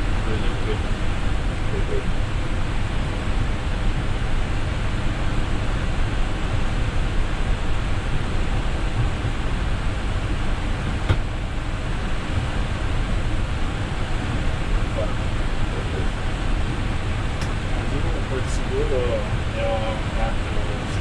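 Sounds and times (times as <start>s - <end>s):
cockpit airflow and ventilation: 0.0s - 21.0s.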